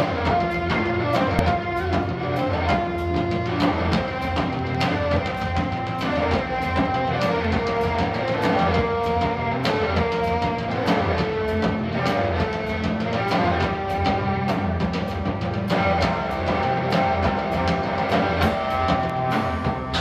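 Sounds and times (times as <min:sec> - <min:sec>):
drum kit: 0:00.0 - 0:20.0
electric guitar: 0:00.0 - 0:20.0
keyboard: 0:00.0 - 0:20.0.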